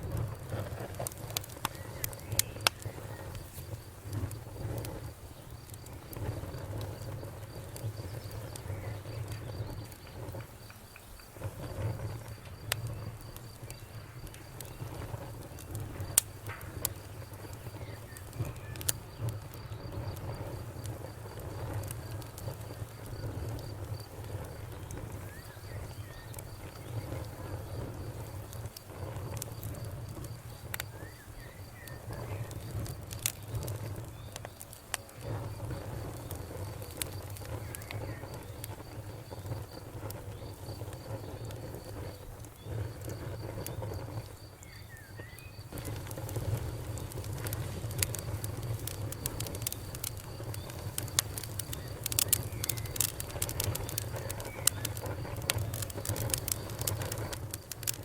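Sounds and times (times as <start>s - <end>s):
fire crackling and popping: 0.0s - 58.0s
rumble of fire flames: 0.0s - 58.0s.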